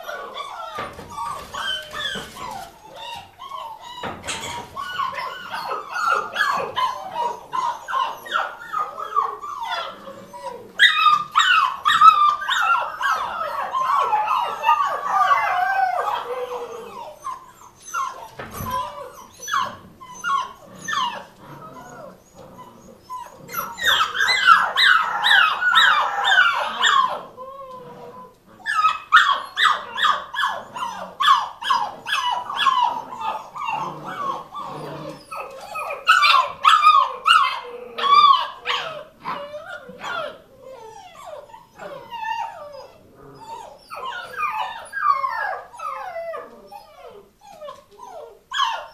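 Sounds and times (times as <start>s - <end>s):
puppies whimpering and squeaking: 0.0s - 48.9s.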